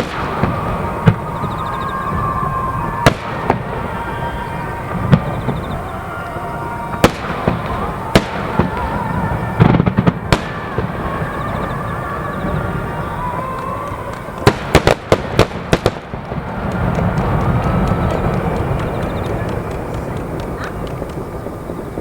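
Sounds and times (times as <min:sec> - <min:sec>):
fireworks bursting in booms: 0:00.0 - 0:22.0.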